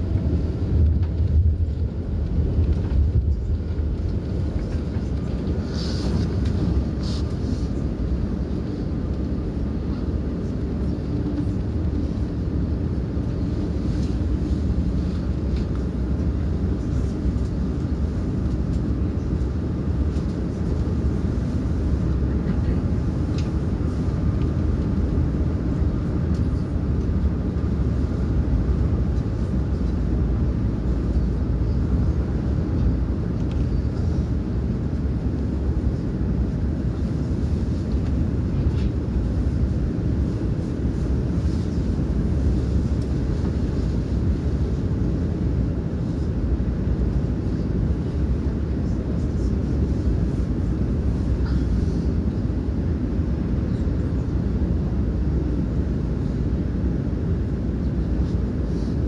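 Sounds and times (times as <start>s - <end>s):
train rumble inside carriage: 0.0s - 59.0s.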